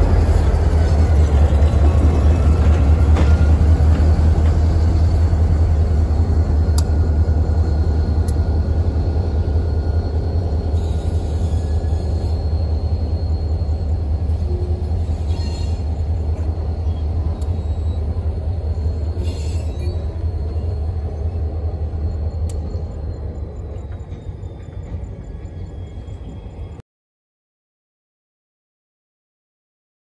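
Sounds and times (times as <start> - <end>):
diesel locomotive rumbling: 0.0 - 26.8.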